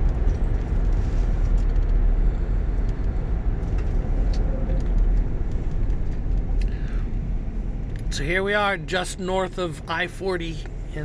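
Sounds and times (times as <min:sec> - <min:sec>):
car interior road and engine rumble: 0:00.0 - 0:11.0.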